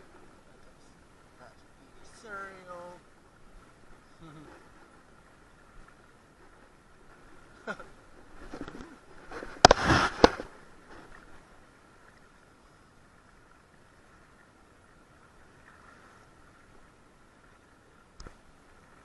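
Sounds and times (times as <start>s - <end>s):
faint steady hiss: 0.0s - 19.0s
water rushing and splashing: 0.0s - 19.0s.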